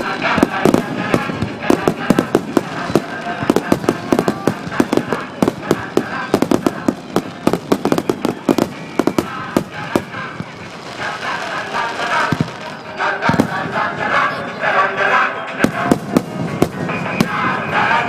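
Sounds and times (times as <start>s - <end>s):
fireworks bangs and crackles: 0.0s - 14.7s, 15.5s - 18.0s.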